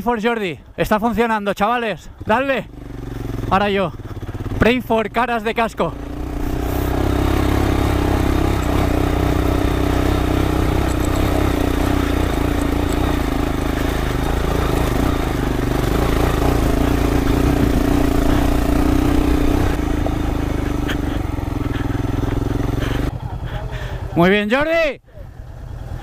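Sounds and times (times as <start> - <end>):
motorcycle engine running: 2.0 - 24.5, 25.1 - 26.0.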